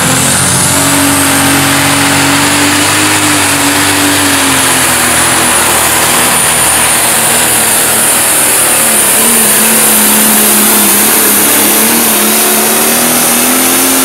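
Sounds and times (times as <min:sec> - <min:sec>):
diesel engine droning under load: 0:00.0 - 0:14.0
high turbo whistle: 0:00.0 - 0:14.0.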